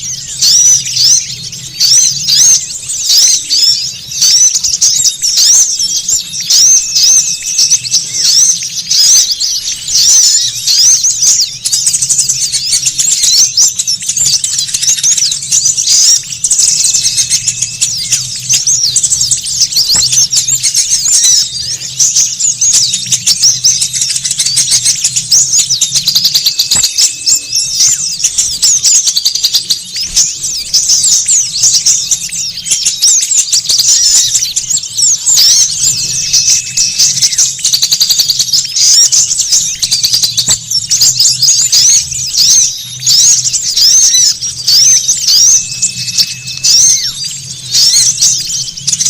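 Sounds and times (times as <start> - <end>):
small birds chirping and twittering: 0.0 - 49.0.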